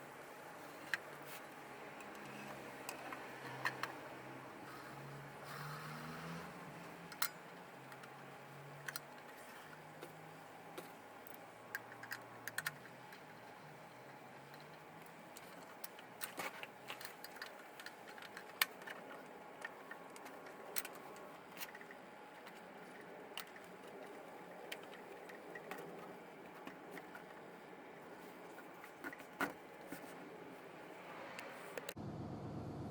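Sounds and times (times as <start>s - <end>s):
small parts clicking and tapping: 0.7s - 4.0s, 4.6s - 30.1s.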